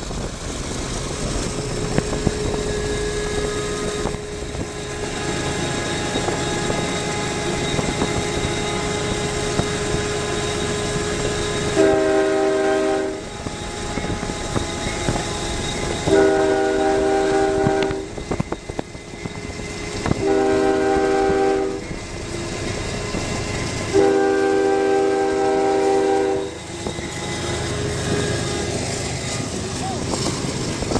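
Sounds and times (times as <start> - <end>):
moving train rumbling: 0.0 - 30.9
locomotive air horn blasts: 1.6 - 29.6.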